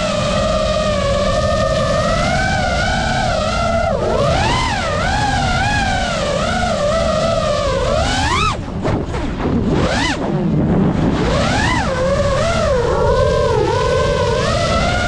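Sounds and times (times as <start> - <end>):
drone motors whining: 0.0 - 15.0
propeller wash rush: 0.0 - 15.0.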